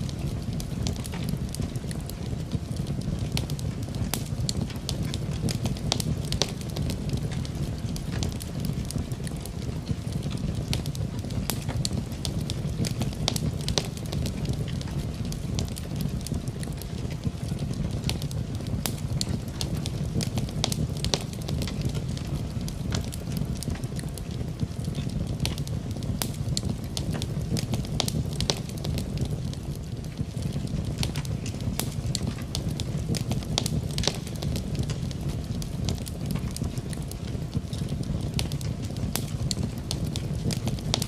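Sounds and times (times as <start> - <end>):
rain: 0.0 - 41.0
wood fire crackling and popping: 0.0 - 41.0.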